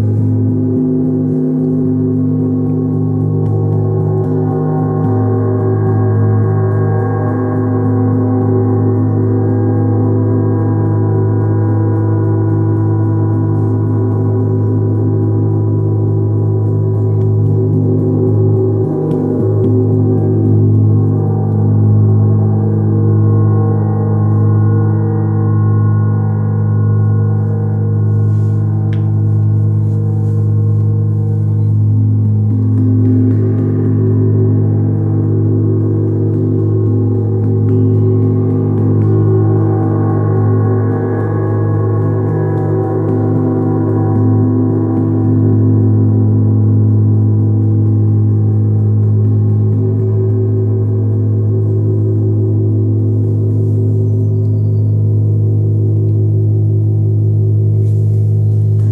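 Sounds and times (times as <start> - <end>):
gong played with mallets: 0.0 - 58.9.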